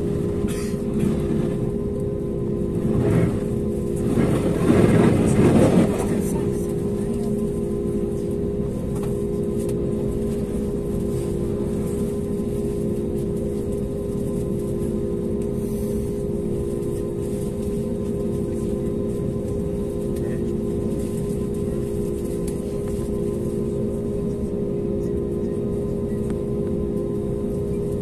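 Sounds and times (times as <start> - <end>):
airplane cabin hum: 0.0 - 28.0.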